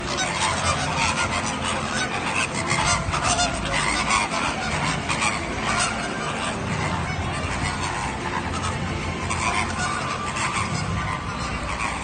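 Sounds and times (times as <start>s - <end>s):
flock of birds honking: 0.0s - 12.0s.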